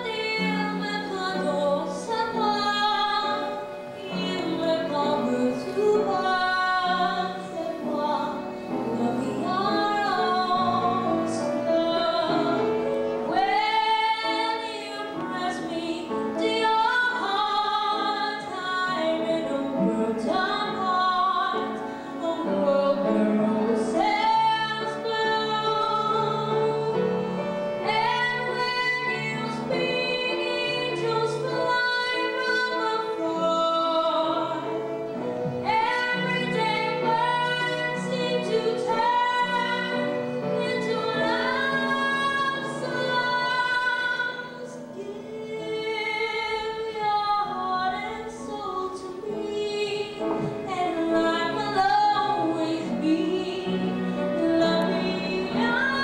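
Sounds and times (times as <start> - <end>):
woman singing operatically: 0.0 - 12.7, 13.3 - 27.1, 27.8 - 34.7, 35.6 - 56.0
piano: 0.0 - 56.0
violin: 0.0 - 56.0.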